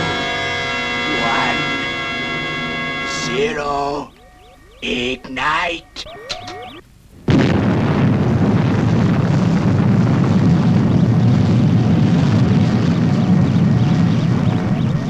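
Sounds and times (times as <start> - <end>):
rocket engine rumble: 0.0 - 15.0.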